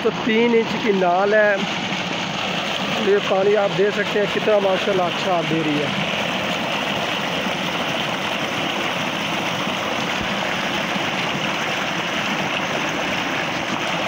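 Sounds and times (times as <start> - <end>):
water gushing into a concrete tank: 0.0 - 14.0.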